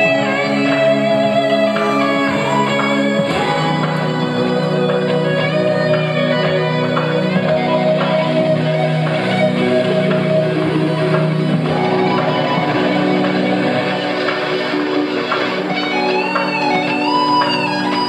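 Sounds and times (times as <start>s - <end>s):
electric guitar solo: 0.0s - 18.0s.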